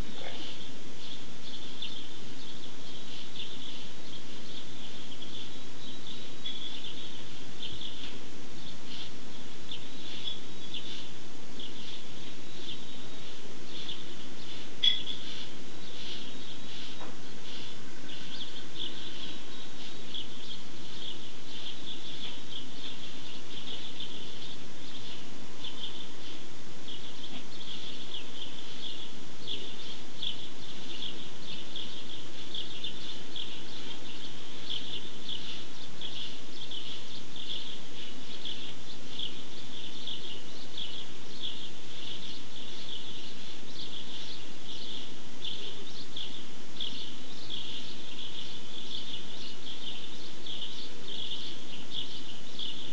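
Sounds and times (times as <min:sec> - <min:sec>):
low background hum: 0:00.0 - 0:52.9
small birds chirping: 0:00.0 - 0:52.9.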